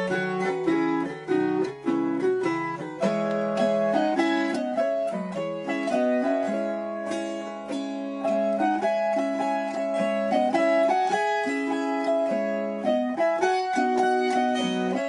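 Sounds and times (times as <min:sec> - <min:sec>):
plucked strings melody: 0:00.0 - 0:15.0.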